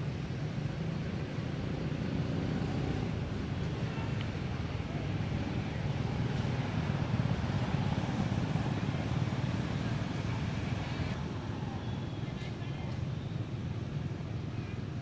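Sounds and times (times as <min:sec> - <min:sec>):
motorbikes and cars passing: 0:00.0 - 0:15.0.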